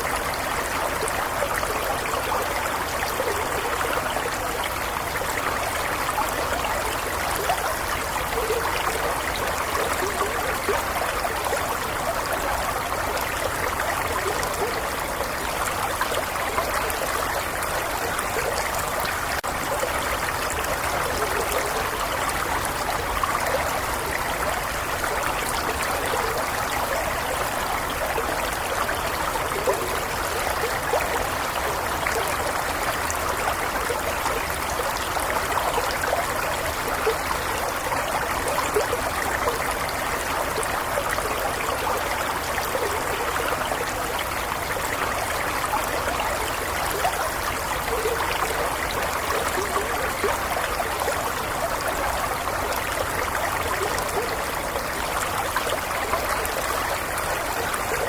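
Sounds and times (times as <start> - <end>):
shallow stream babbling over stones: 0.0 - 58.0.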